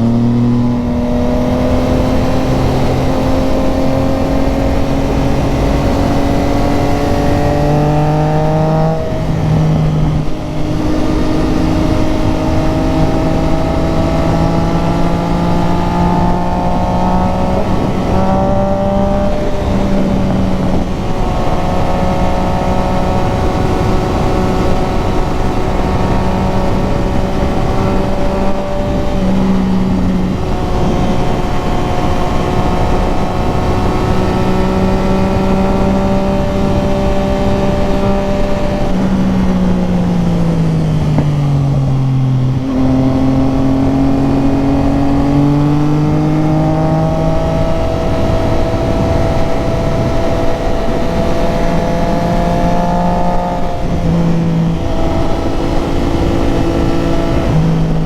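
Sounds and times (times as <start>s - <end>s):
motorcycle engine: 0.0s - 58.0s
steady rushing noise: 0.0s - 58.0s.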